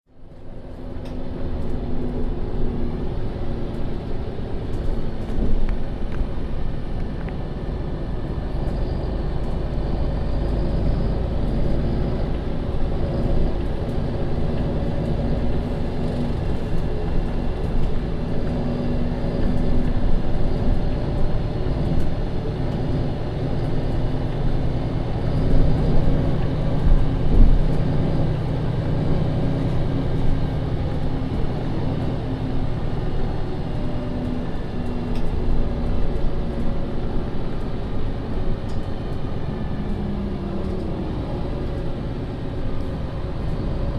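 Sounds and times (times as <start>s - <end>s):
bus diesel engine droning: 0.1s - 43.9s.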